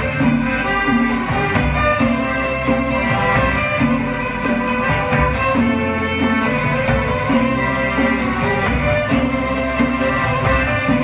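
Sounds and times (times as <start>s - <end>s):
folk dance music: 0.0s - 11.0s.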